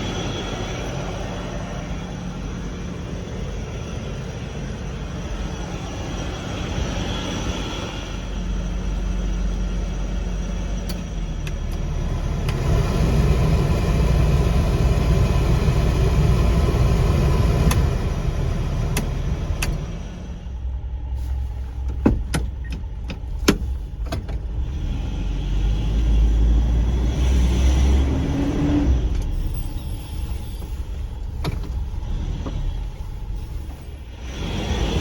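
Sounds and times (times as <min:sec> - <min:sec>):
truck engine rumbling: 0:00.0 - 0:35.0.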